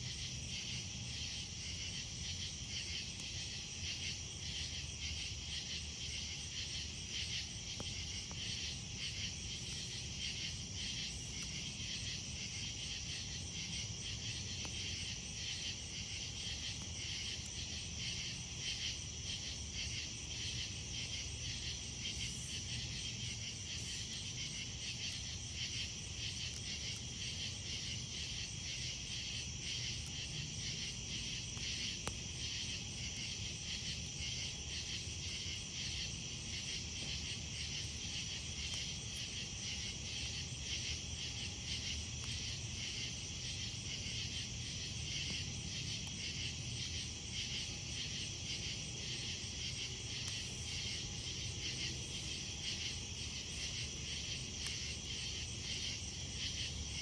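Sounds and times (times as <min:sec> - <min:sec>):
crickets chirping: 0:00.0 - 0:57.0
low campfire hum: 0:00.0 - 0:57.0.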